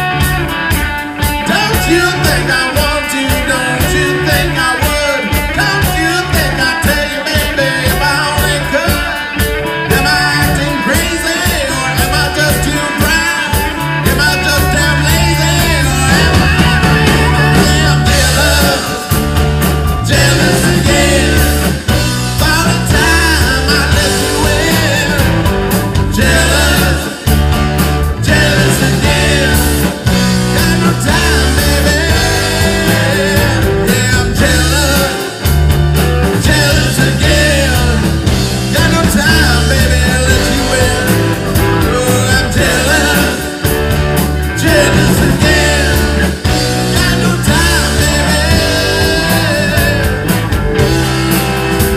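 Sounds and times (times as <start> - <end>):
heavy bass notes: 0.0 - 51.9
live rock band playing: 0.0 - 51.9
lead singer singing: 0.7 - 51.9.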